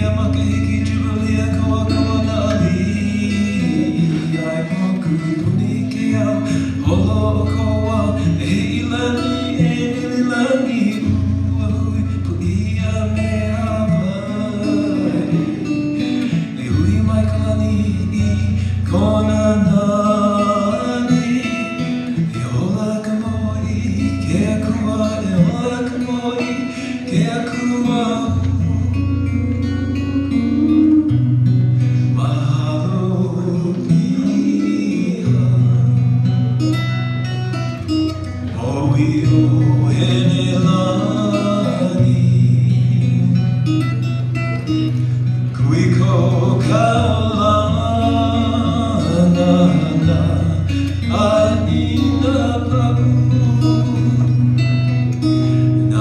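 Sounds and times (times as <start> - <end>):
man singing: 0.0 - 36.4, 38.3 - 56.0
acoustic guitar: 0.0 - 56.0.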